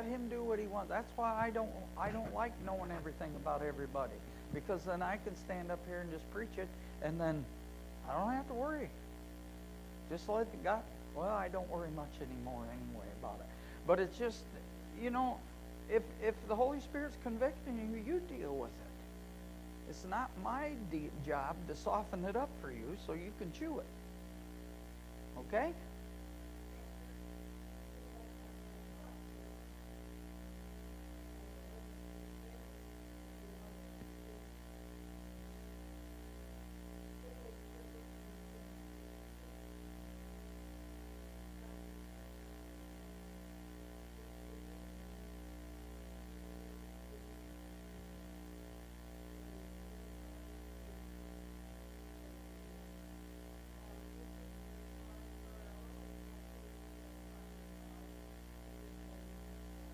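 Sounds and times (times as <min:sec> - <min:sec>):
low electrical mains hum: 0:00.0 - 0:59.9.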